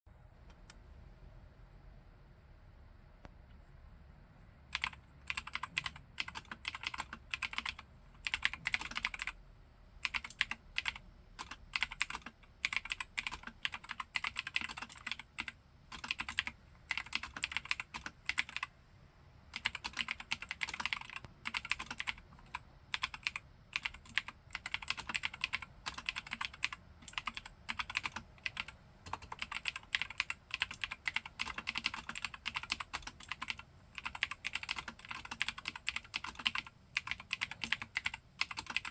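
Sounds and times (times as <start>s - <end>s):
typing on clicky mechanical keyboard: 4.7s - 9.4s, 10.0s - 18.7s, 19.5s - 38.9s.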